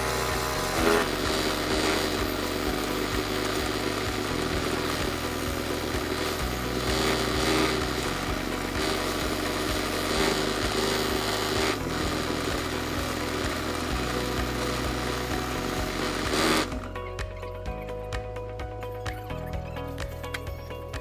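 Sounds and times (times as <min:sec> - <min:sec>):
turning tool scraping wood: 0:00.0 - 0:16.8
wood lathe running: 0:00.0 - 0:17.0.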